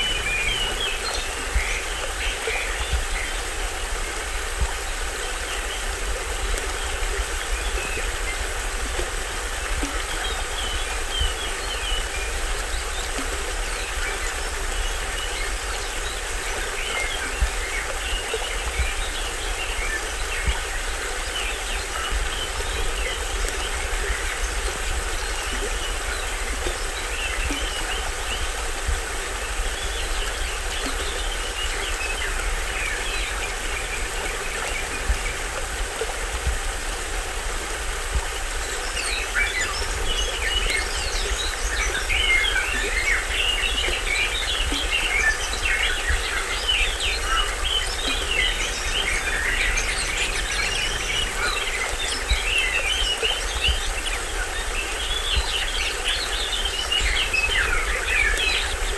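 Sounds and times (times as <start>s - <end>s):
forest birds chirping: 0.0s - 36.6s, 38.1s - 58.9s
small waterfall splashing: 0.0s - 58.9s.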